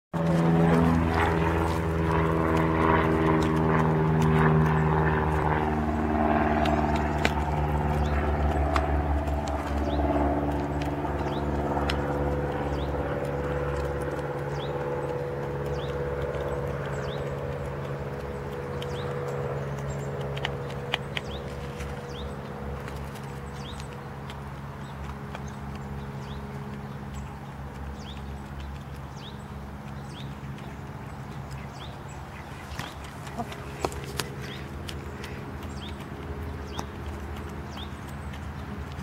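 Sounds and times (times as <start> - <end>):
engine drone: 0.1 - 39.0
hens pecking at tub: 0.2 - 39.0.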